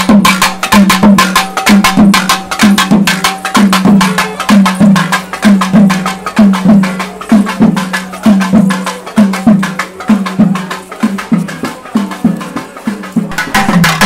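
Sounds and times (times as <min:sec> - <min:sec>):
barrel drum played fast: 0:00.0 - 0:14.0.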